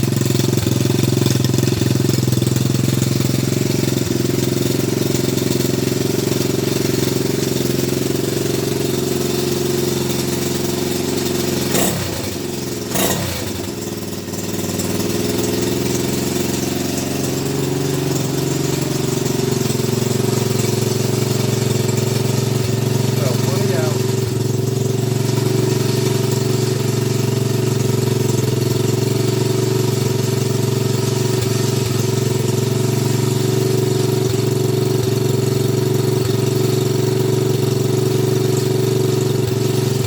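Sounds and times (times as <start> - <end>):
motorbike engine running: 0.0 - 40.0.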